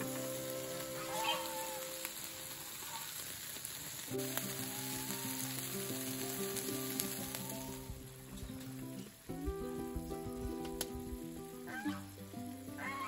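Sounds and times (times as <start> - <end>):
soft background music: 0.0 - 2.2, 4.1 - 13.0
bacon sizzling: 0.0 - 13.0.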